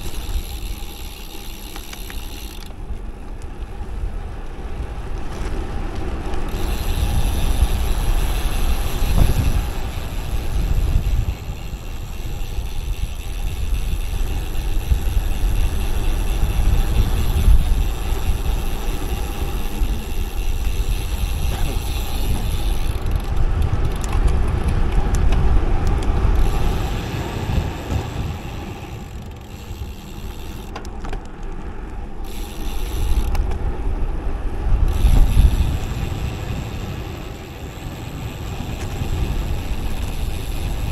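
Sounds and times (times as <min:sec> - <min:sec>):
bike road noise: 0:00.0 - 0:40.9
wind buffeting microphone: 0:00.0 - 0:40.9.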